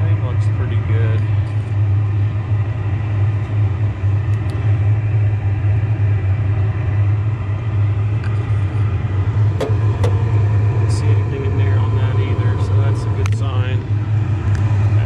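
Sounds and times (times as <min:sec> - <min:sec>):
gas furnace flame and fans rumbling: 0:00.0 - 0:15.0.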